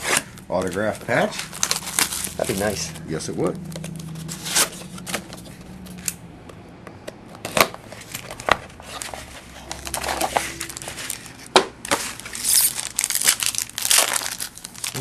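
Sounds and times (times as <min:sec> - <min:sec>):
card packaging crinkling: 0:00.0 - 0:05.6, 0:07.4 - 0:15.0.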